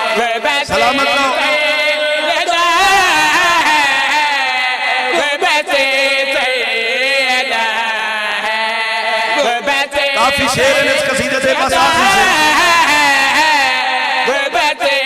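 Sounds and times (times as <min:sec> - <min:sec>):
man chanting through microphone: 0:00.0 - 0:15.0.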